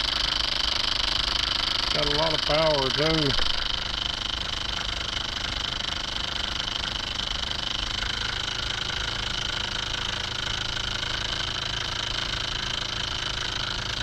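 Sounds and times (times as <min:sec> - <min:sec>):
small generator whining: 0:00.0 - 0:14.0.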